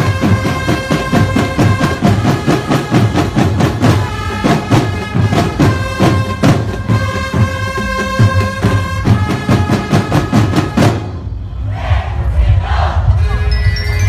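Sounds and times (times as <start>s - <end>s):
drum and brass band playing: 0.0s - 11.4s.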